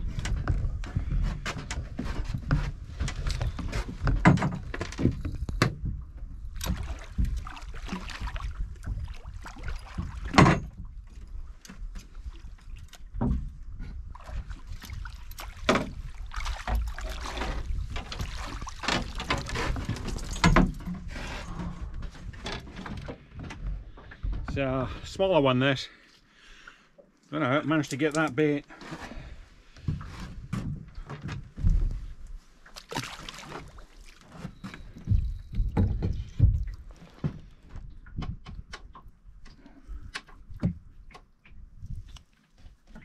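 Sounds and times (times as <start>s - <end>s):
knocks and rattles in boat: 0.0s - 25.1s, 28.8s - 32.2s, 32.8s - 43.0s
water rumble: 0.0s - 25.8s, 30.5s - 43.0s
wind: 0.0s - 43.0s.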